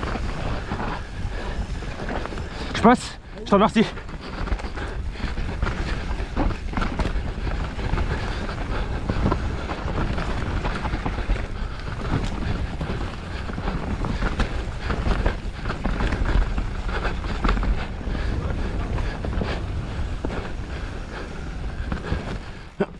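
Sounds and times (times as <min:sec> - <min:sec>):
bike rattling: 0:00.0 - 0:22.9
bike tyres rolling over rocks: 0:00.0 - 0:22.9.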